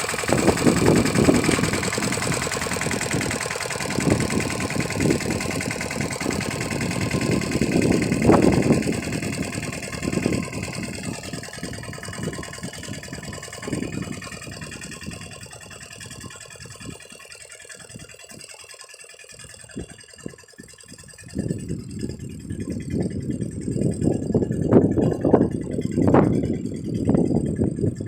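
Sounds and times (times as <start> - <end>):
diesel tractor engine under load: 0.0 - 28.0.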